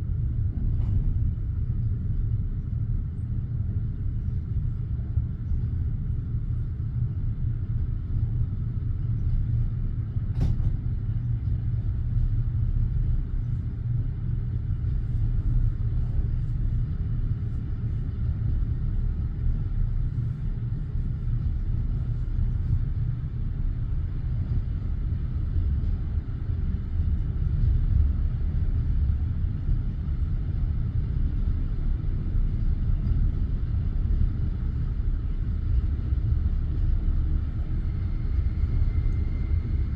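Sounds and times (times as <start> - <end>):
train low rumble: 0.0 - 39.9.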